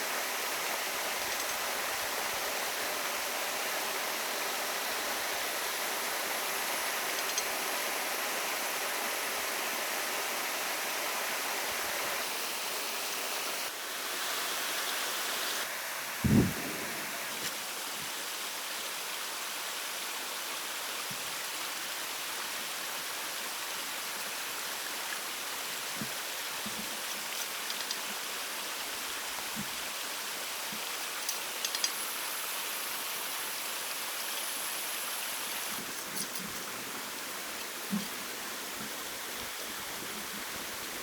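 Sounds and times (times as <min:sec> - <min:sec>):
running water rushing: 0:00.0 - 0:41.0.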